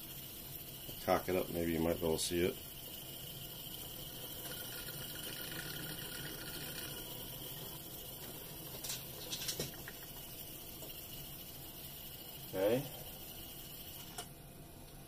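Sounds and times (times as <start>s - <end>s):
tape recorder motor whirring: 0.0s - 14.4s.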